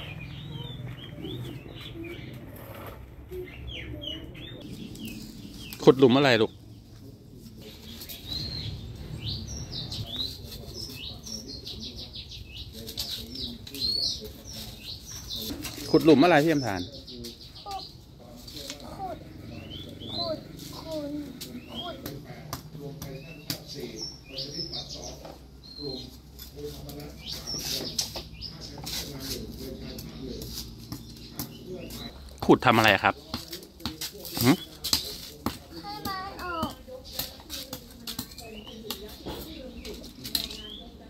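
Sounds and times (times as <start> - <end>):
faint low voices: 0.0 - 41.0
small birds chirping: 0.0 - 41.0.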